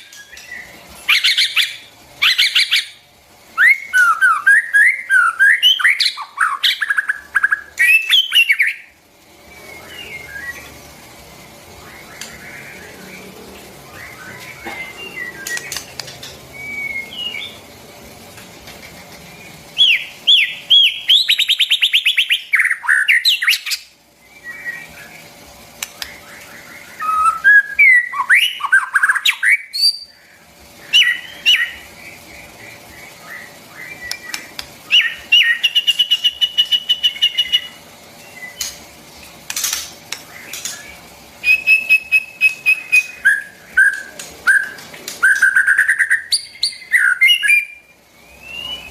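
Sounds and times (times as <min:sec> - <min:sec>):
bird singing whistles and trills: 0:00.0 - 0:10.8, 0:11.8 - 0:17.6, 0:19.3 - 0:25.3, 0:25.9 - 0:38.8, 0:40.3 - 0:48.9.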